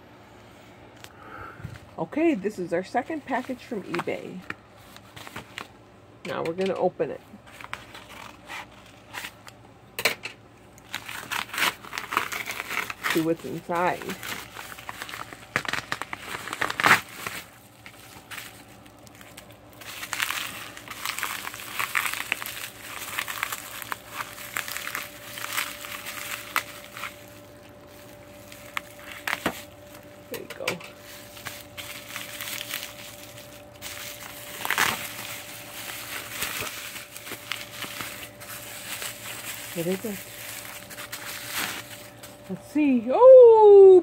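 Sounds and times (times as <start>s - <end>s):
bubble wrap and mailer crinkling: 2.1s - 5.8s, 7.4s - 9.6s, 10.7s - 42.6s.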